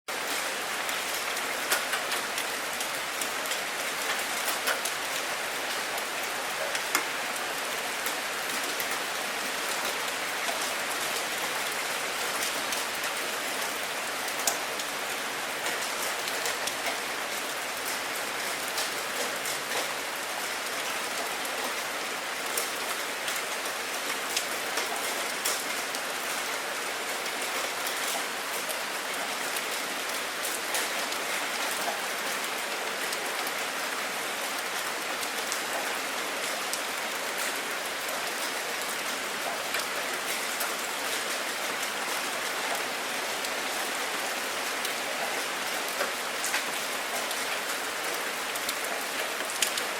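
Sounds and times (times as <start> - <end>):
rain pattering: 0.1 - 49.9.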